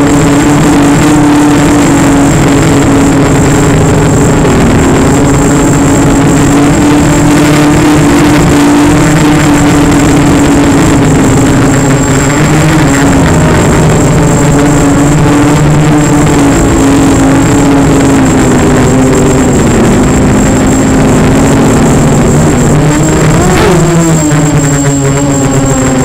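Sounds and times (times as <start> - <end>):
model aircraft motor buzzing: 0.0 - 26.0.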